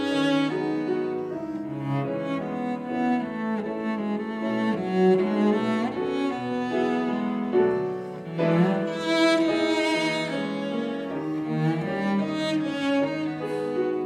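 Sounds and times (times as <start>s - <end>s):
cello bowing slow melody: 0.0s - 14.0s
piano accompaniment: 0.0s - 14.0s.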